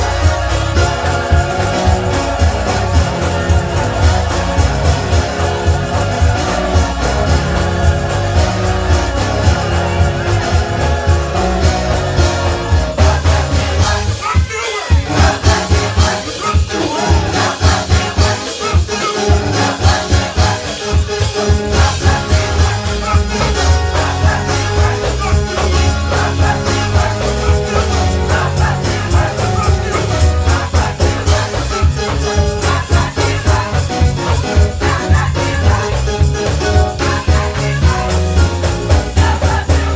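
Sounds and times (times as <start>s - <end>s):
gospel music with heavy bass: 0.0s - 39.9s
hand percussion beat: 0.0s - 39.9s.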